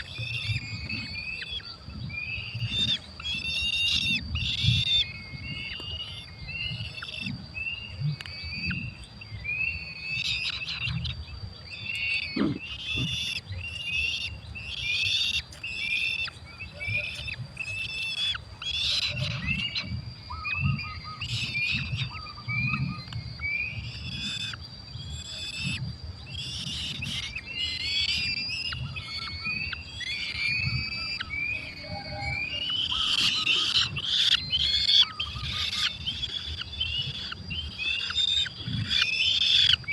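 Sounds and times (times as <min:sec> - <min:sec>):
falcon nestlings cheeping: 0:00.0 - 0:07.3, 0:08.3 - 0:39.9.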